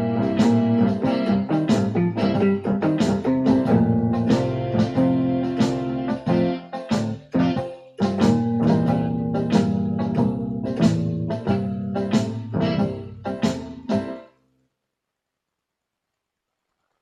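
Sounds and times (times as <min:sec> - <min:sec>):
electronic keyboard playing blues: 0:00.0 - 0:14.3.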